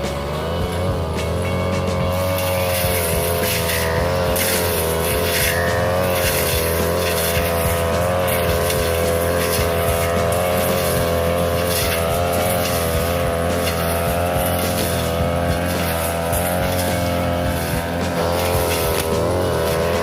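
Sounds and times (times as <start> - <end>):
blade swishing through brush: 0.0 - 20.0
brush cutter engine running: 0.0 - 20.0.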